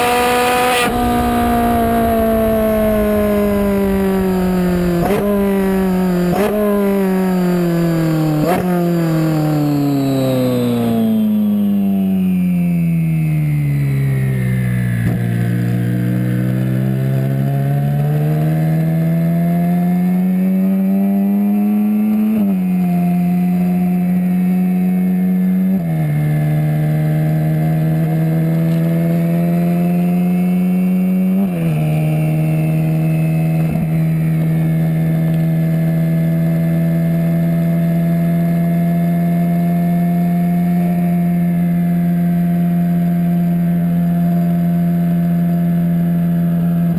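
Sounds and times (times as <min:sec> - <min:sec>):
sports car engine accelerating: 0:00.0 - 0:46.9.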